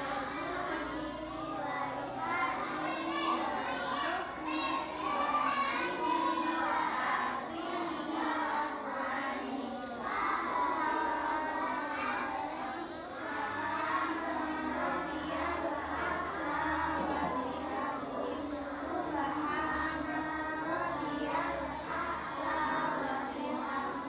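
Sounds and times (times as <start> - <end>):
children chanting prayers: 0.0 - 24.0.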